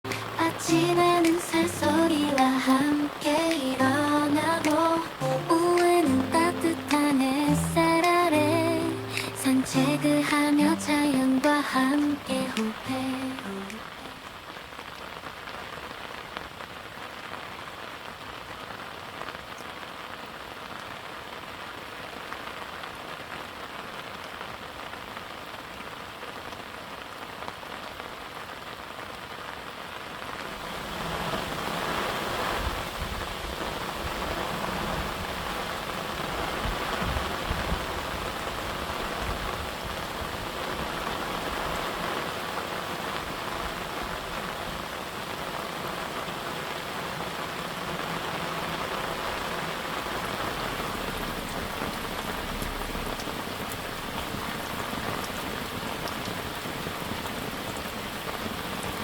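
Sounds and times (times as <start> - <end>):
rain falling on garden: 0.0 - 59.0.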